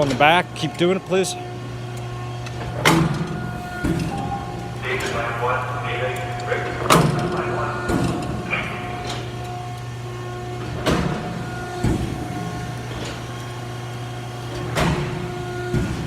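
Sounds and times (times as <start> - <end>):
power shear motor hum: 0.0 - 16.0.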